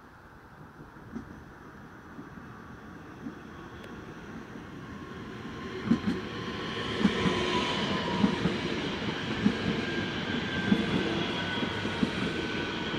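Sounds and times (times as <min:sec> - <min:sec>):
electric train rolling rush: 0:00.2 - 0:12.9.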